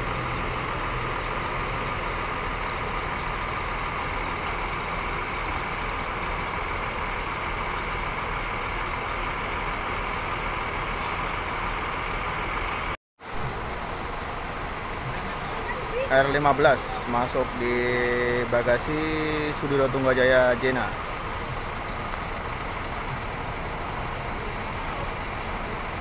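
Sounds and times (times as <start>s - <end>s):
diesel bus engine idling: 0.0s - 26.0s.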